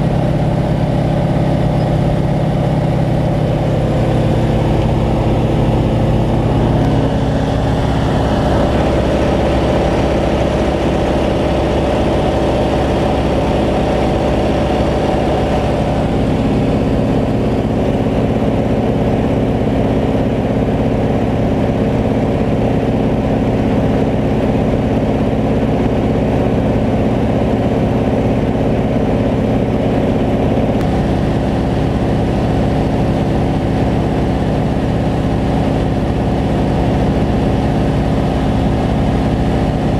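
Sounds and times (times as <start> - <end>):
radial aircraft engine running: 0.0 - 39.9.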